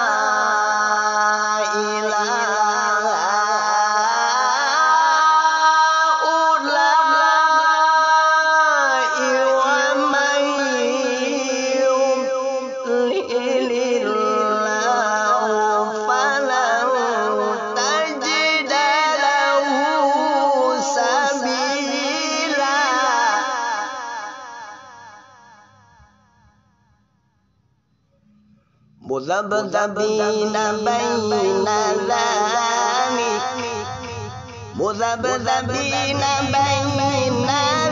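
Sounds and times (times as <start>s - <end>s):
man chanting melismatic recitation: 0.0s - 25.6s, 29.0s - 37.9s.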